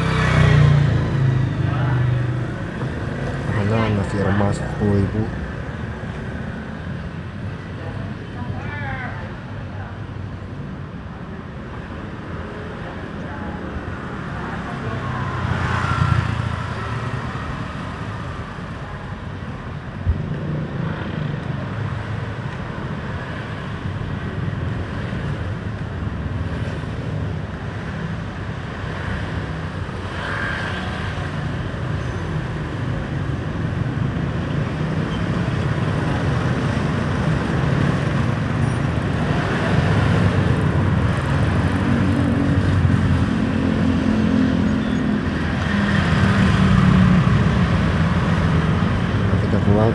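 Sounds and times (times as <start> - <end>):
car and motorbike engines passing: 0.0 - 9.3, 12.0 - 19.4, 20.1 - 49.9.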